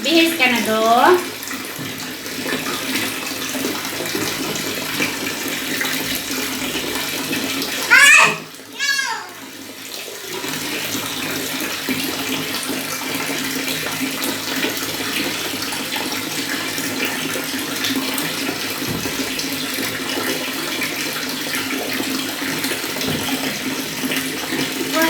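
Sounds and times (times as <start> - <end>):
water running into bathtub: 0.0 - 25.0.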